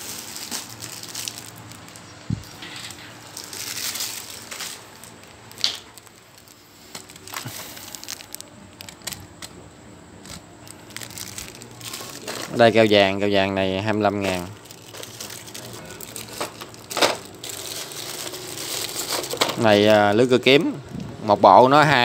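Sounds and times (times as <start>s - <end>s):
plastic bags crinkling: 0.0s - 9.6s, 10.2s - 20.4s.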